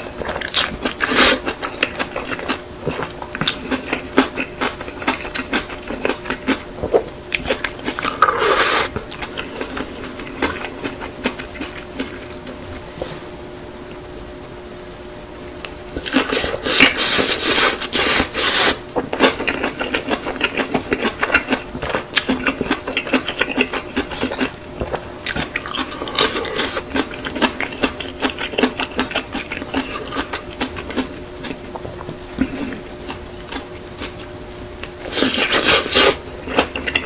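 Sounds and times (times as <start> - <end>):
wet chewing with clicks: 0.3 - 12.6, 19.0 - 37.0.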